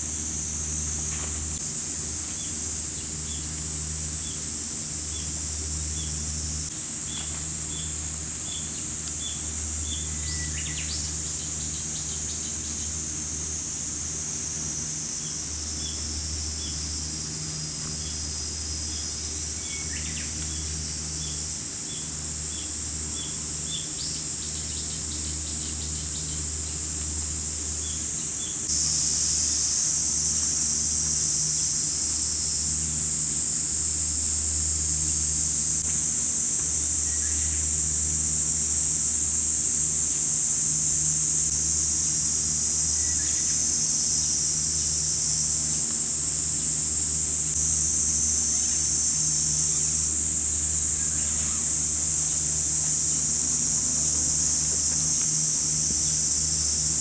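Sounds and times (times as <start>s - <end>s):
insect chorus buzzing: 0.0s - 57.0s.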